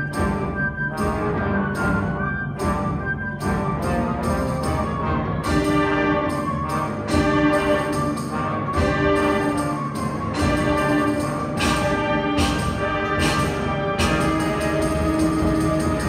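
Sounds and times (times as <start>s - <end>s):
concert band playing: 0.0s - 16.0s.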